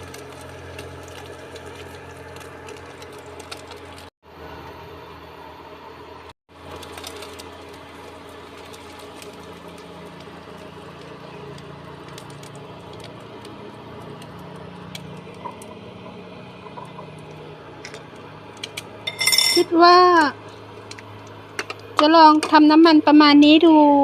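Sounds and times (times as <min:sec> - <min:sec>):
food frying in a pan: 0:00.0 - 0:04.1, 0:06.5 - 0:23.5
cooker whirring hum: 0:00.0 - 0:24.0.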